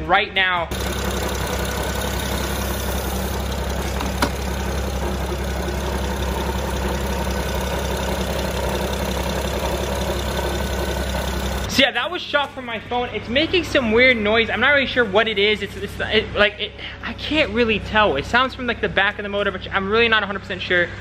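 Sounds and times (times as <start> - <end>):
car engine idling: 0.7 - 18.1.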